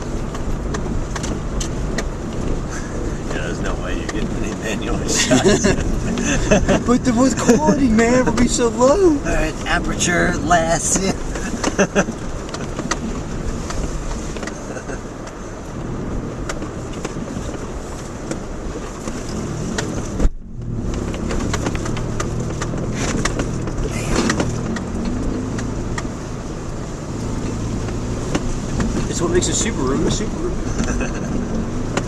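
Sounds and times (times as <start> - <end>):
car engine and tyre noise: 0.0 - 32.0.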